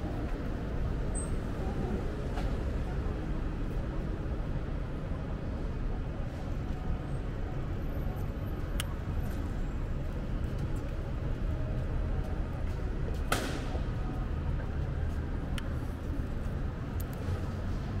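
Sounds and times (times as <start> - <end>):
street traffic: 0.0 - 18.0.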